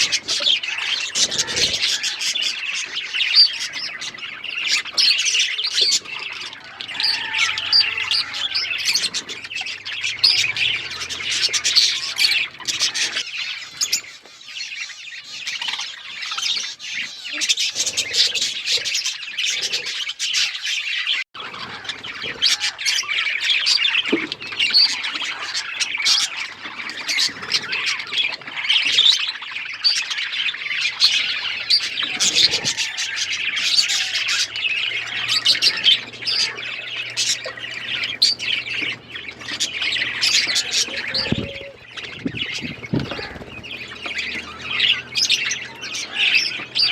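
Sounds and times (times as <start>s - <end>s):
bird squawks: 0.0s - 46.9s
budgerigars chirping and chattering: 0.0s - 46.9s.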